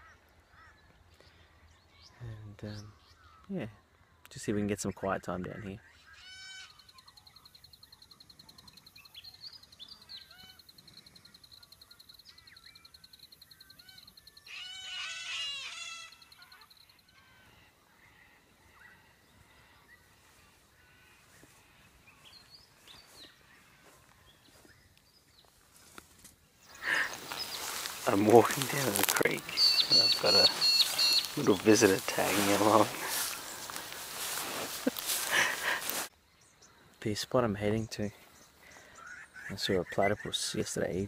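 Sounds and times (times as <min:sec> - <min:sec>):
birds calling: 0:00.0 - 0:41.0
harsh bird calls: 0:04.9 - 0:24.9, 0:26.6 - 0:41.0.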